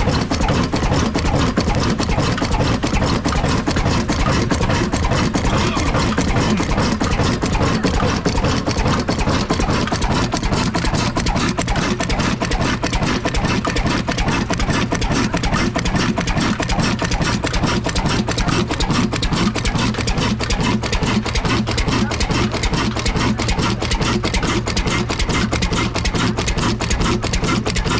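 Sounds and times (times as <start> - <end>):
diesel engine running steadily: 0.0 - 27.9.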